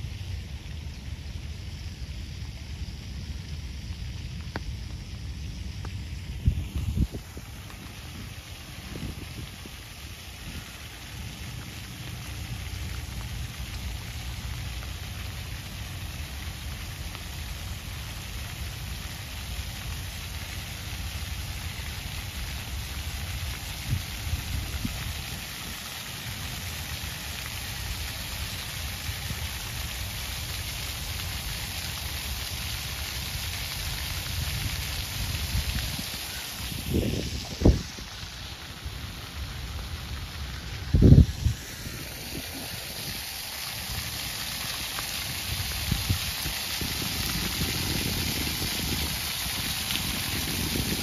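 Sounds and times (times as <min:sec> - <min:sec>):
steady outdoor hiss: 0:00.0 - 0:51.0
wind noise on microphone: 0:00.0 - 0:51.0.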